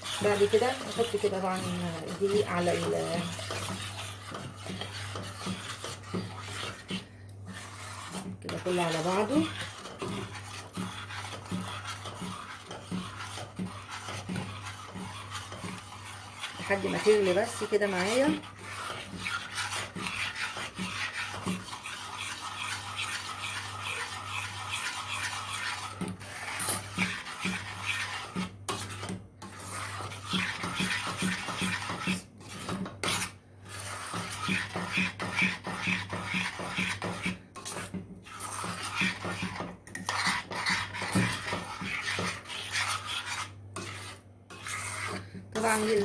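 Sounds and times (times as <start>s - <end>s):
spoon scraping a cooking pot: 0.0s - 46.0s.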